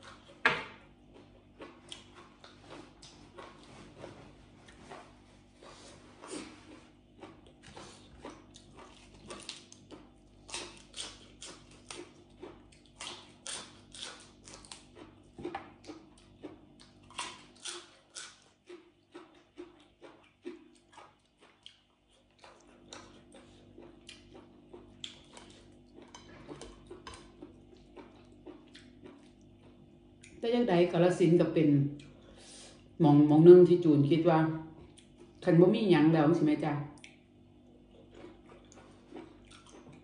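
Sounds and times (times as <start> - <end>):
faint steady hum: 0.0 - 40.0
chewing and lip smacking: 1.0 - 30.4, 32.0 - 32.3, 34.8 - 35.4, 37.0 - 40.0.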